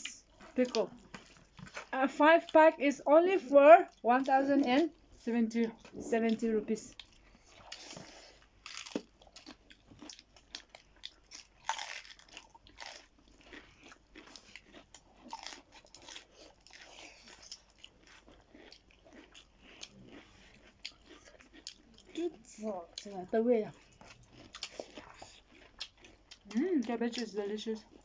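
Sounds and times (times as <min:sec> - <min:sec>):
chewing dried meat: 0:03.8 - 0:28.0.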